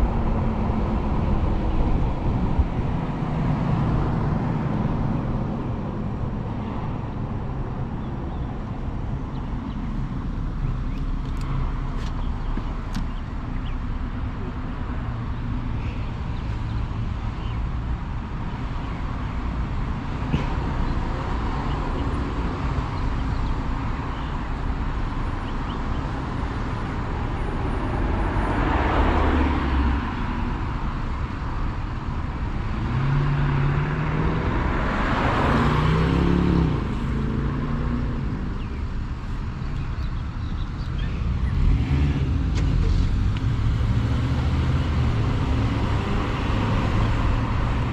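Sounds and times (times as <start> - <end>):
road traffic rumble: 0.0 - 47.9
vehicles passing close by: 0.0 - 47.9.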